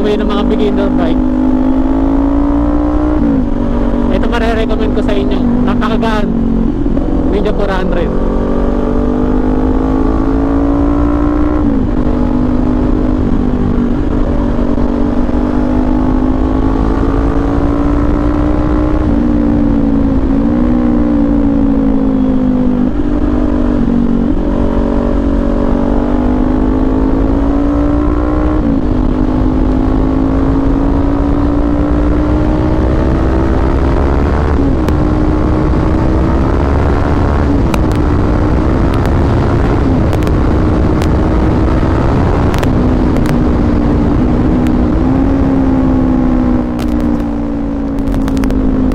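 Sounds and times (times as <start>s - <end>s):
motorcycle engine cruising: 0.0s - 48.9s.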